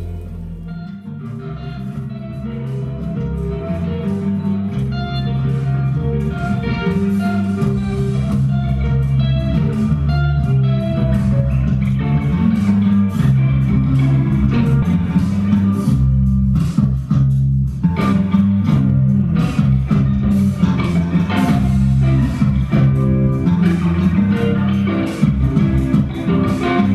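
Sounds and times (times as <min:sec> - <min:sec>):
electric bass line: 0:00.0 - 0:26.9
electric guitar: 0:00.0 - 0:26.9.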